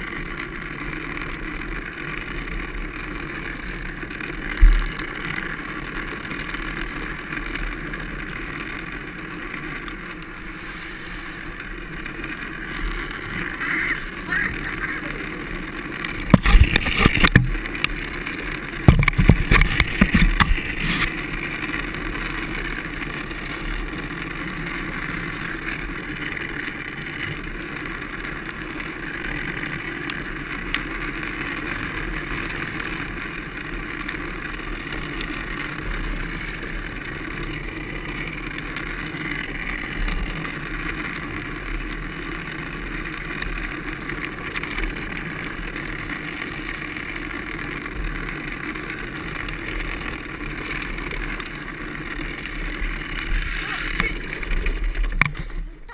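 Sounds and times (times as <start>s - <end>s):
wheels rumbling on asphalt: 0.0s - 55.9s.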